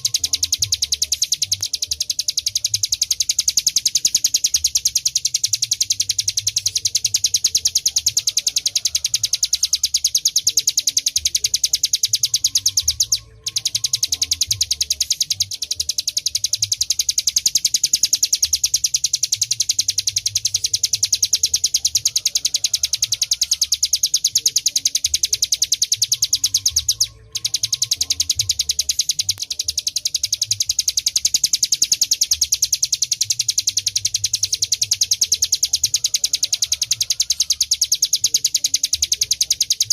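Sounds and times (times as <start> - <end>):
bird high-pitched trill: 0.0 - 39.9.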